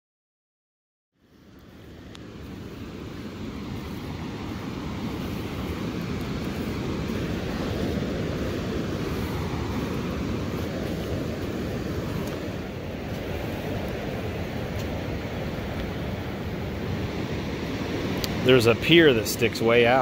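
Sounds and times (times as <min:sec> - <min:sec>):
wind: 0:01.1 - 0:20.0
ocean surf: 0:01.2 - 0:20.0.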